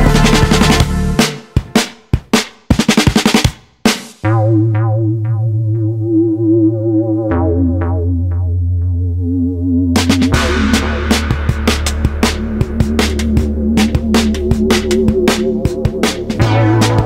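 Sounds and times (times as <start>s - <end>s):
electronic music: 0.0s - 1.9s, 4.2s - 17.0s.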